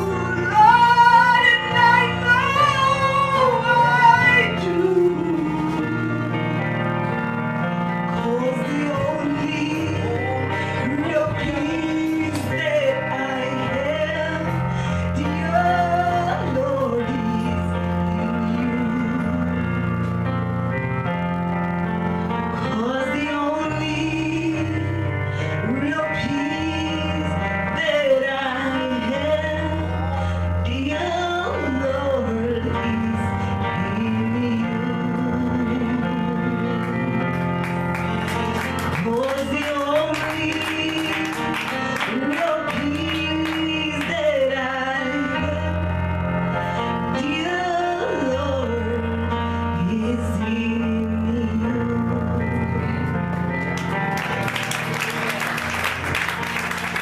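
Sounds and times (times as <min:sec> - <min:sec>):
woman singing into a microphone: 0:00.0 - 0:20.2, 0:22.5 - 0:37.5, 0:38.8 - 0:53.2
instrumental accompaniment: 0:00.0 - 0:57.0.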